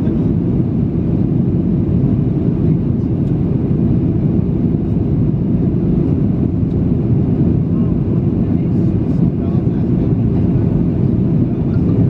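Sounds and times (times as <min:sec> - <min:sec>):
jet airliner cabin drone: 0:00.0 - 0:12.0.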